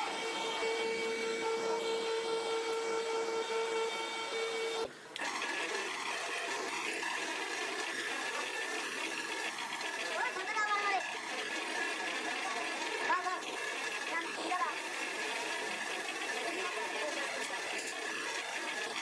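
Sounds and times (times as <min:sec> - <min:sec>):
drill press whining: 0:00.0 - 0:19.0
grinding wheel humming: 0:00.0 - 0:19.0.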